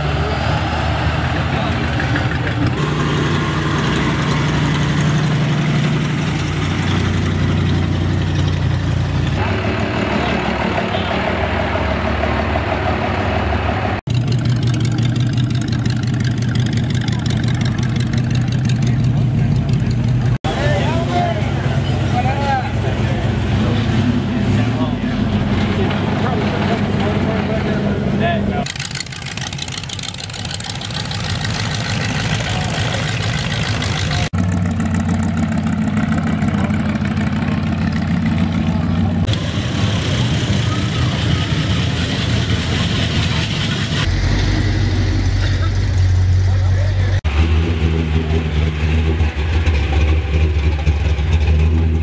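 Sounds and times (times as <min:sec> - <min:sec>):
diesel truck engine running: 0:00.0 - 0:52.0
low-pitched pickup engine: 0:00.0 - 0:52.0.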